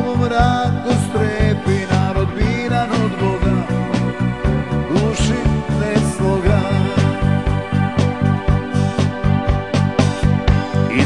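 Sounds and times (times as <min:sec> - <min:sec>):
rock band playing instrumental: 0:00.0 - 0:11.0.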